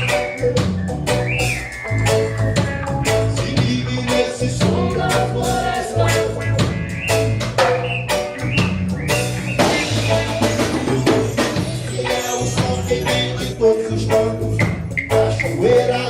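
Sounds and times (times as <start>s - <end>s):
drum rimshots: 0.0s - 13.4s
bass line: 0.0s - 16.0s
live reggae band playing: 0.0s - 16.0s.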